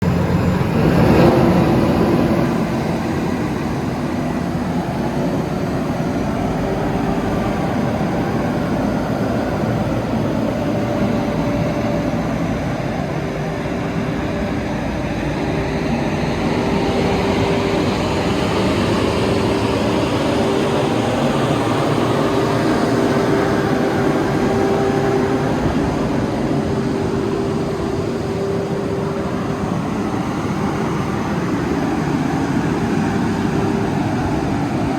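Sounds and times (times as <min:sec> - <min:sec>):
diesel engine running: 0:00.0 - 0:34.9
steady whine: 0:00.0 - 0:34.9.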